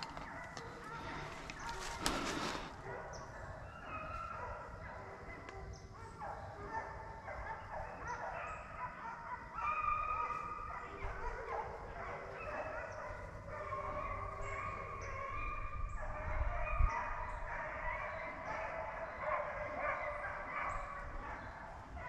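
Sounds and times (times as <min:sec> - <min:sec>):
hounds baying: 0:00.0 - 0:22.0.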